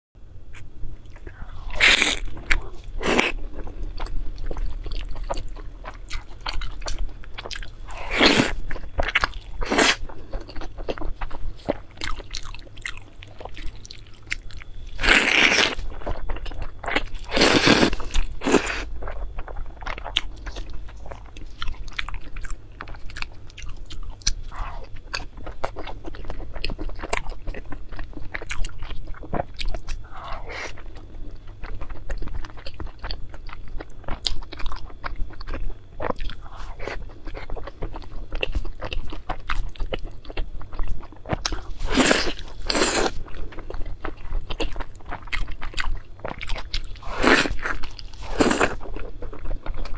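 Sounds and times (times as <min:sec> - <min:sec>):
person chewing food: 0:00.5 - 0:49.9.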